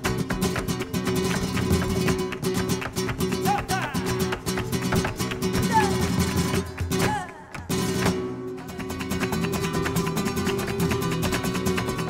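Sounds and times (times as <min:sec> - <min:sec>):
acoustic guitars strumming: 0:00.0 - 0:12.0
rhythmic hand claps: 0:00.0 - 0:12.0.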